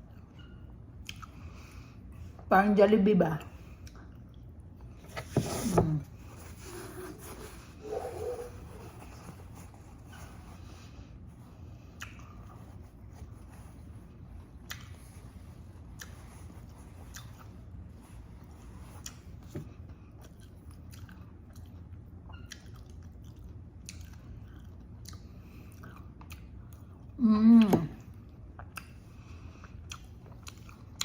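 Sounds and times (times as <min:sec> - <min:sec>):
chewing and crunching food: 0:00.0 - 0:02.4, 0:03.5 - 0:05.0, 0:09.2 - 0:31.0
low steady hum: 0:00.0 - 0:31.0.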